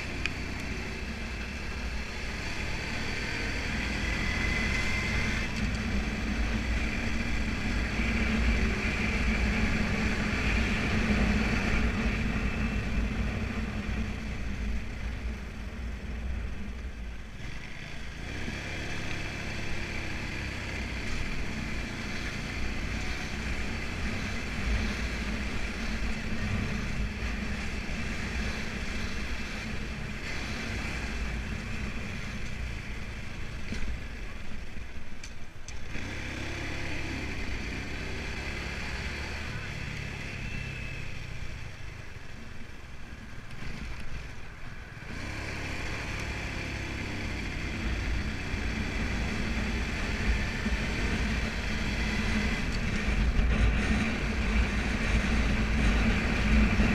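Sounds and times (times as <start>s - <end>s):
wind and road noise: 0.0s - 56.9s.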